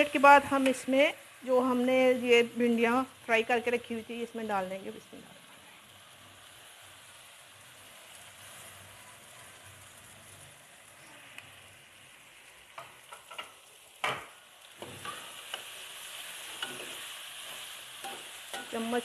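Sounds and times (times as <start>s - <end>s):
okra sizzling in a pot: 0.0s - 19.0s.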